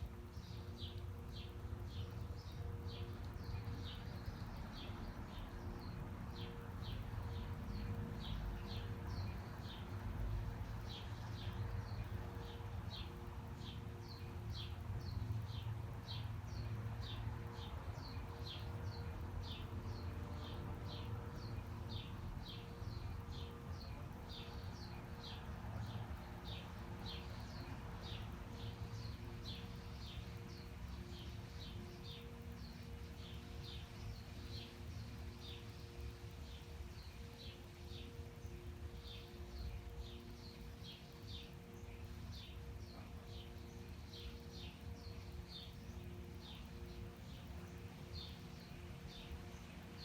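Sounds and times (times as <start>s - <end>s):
bird chirping: 0.0s - 50.0s
city traffic rumble: 0.0s - 50.0s
faint steady hum: 0.0s - 50.0s.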